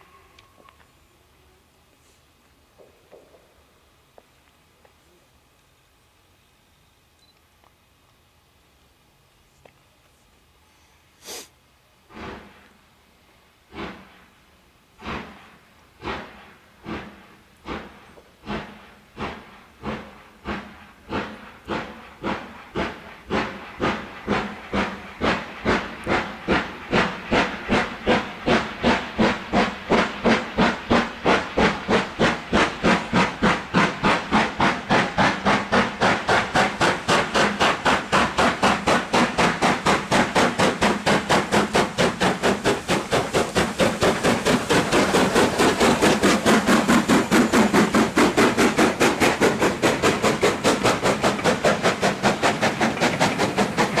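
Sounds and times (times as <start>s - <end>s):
steam locomotive exhaust beats: 0.0s - 6.8s, 10.6s - 54.0s.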